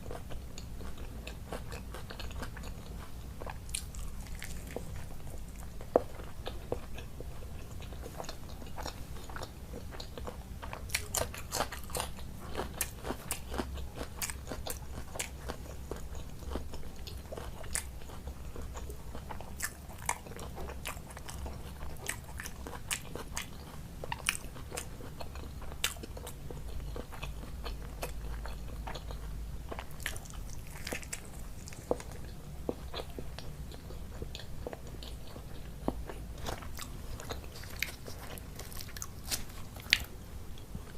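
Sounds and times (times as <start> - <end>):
person chewing and biting: 0.0 - 40.2
steady low hum: 0.0 - 40.9.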